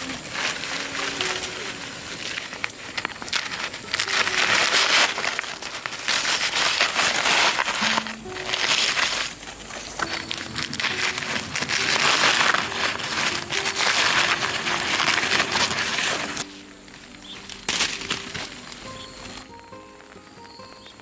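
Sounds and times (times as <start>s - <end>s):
light background music: 0.0s - 21.0s
loud rustling crinkling: 0.0s - 21.0s.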